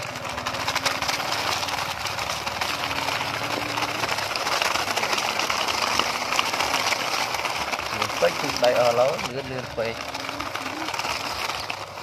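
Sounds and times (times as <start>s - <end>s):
toy truck wheels crunching gravel: 0.0s - 12.0s.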